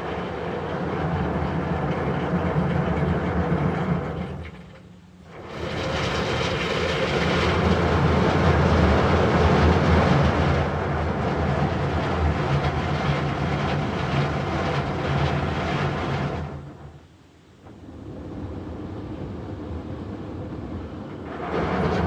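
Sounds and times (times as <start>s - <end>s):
car wash mechanical rumble: 0.0s - 22.0s.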